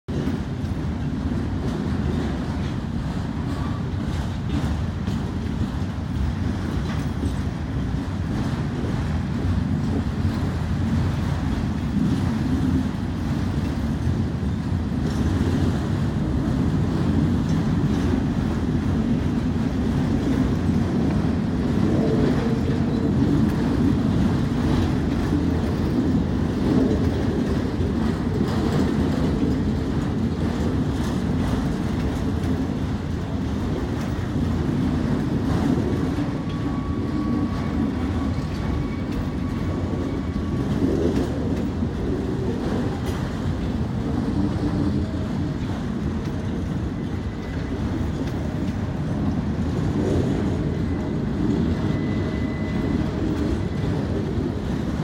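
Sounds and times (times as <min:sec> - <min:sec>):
freight train wheels rumbling: 0:00.1 - 0:55.0.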